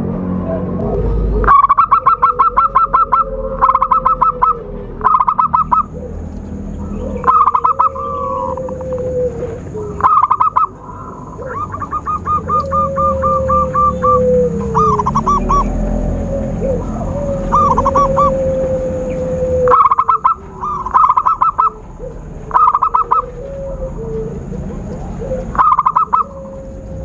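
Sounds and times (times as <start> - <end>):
doves cooing: 0.0 - 27.0.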